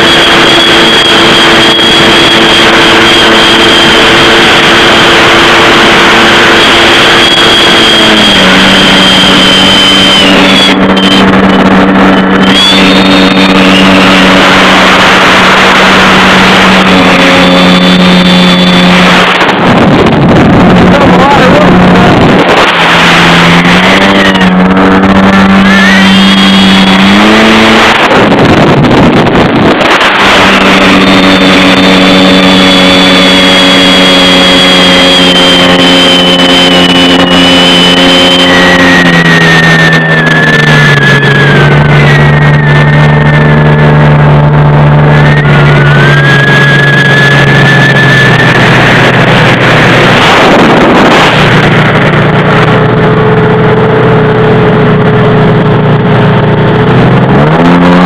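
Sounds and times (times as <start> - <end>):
jet ski engine running: 0.0 - 58.0
rushing water: 0.0 - 58.0
wind noise: 0.0 - 58.0.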